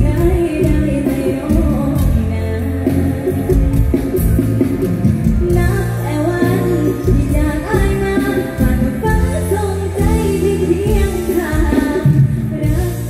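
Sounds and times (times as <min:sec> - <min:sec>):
woman singing into a microphone: 0:00.0 - 0:03.8, 0:05.2 - 0:13.0
bass: 0:00.0 - 0:13.0
electric guitars: 0:00.0 - 0:13.0.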